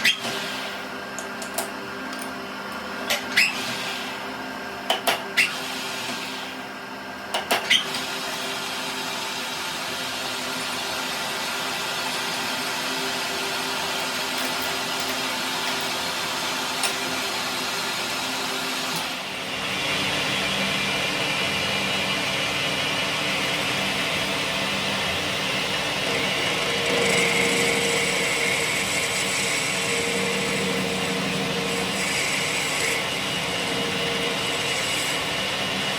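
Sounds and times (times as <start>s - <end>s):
workshop power machine running: 0.0s - 35.9s.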